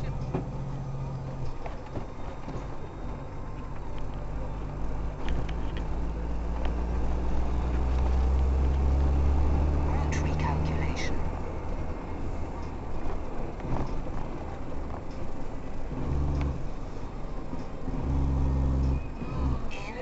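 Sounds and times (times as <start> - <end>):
car engine: 0.0 - 20.0.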